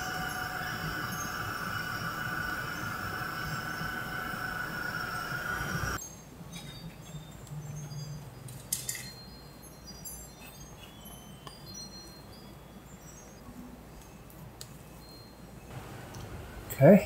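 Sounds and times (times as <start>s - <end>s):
faint high tinkling tones: 0.0s - 15.8s.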